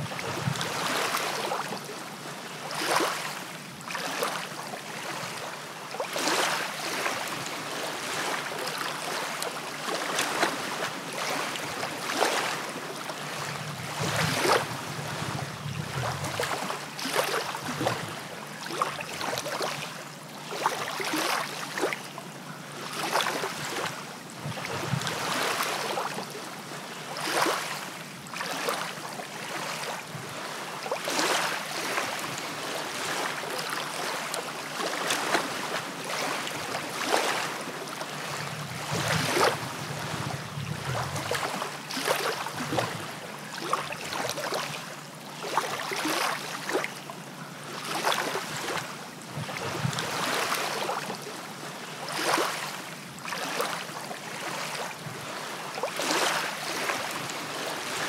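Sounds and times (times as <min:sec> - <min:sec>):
sea water lapping and sloshing: 0:00.0 - 0:58.0
small water splashes: 0:00.0 - 0:58.0.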